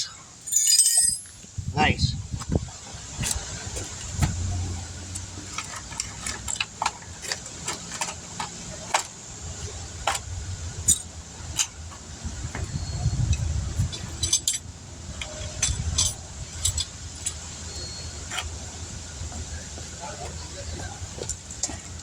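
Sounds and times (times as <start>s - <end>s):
vehicle engine humming: 1.2s - 22.0s.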